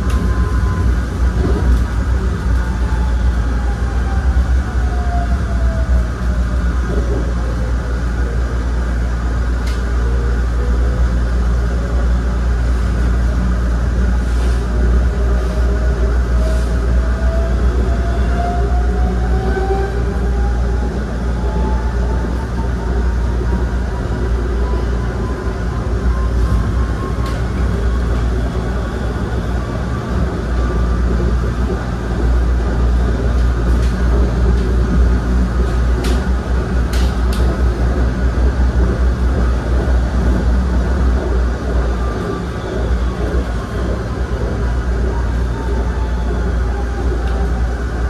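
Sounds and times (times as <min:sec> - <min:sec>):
light-rail car rumbling on track: 0:00.0 - 0:48.0.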